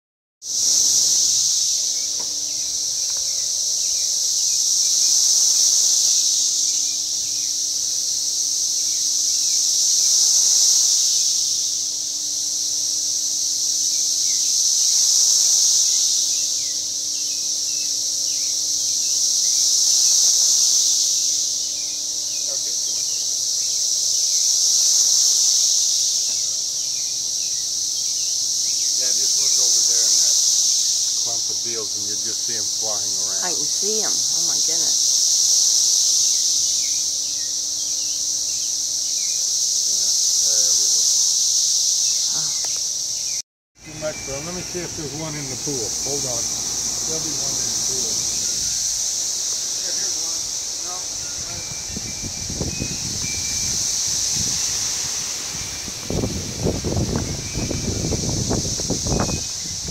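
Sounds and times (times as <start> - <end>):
cicadas buzzing: 0.4 - 59.9.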